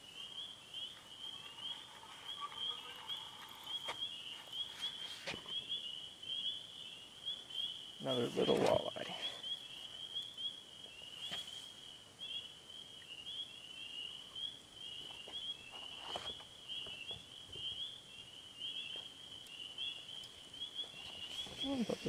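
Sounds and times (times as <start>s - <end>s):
night animals calling: 0.0s - 22.0s.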